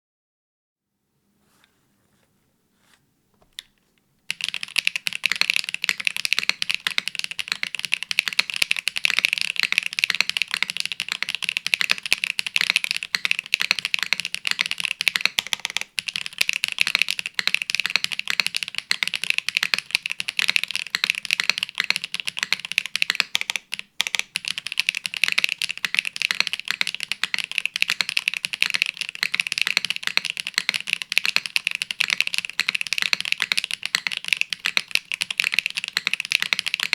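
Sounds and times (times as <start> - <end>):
mechanical keyboard typing: 4.3 - 36.9.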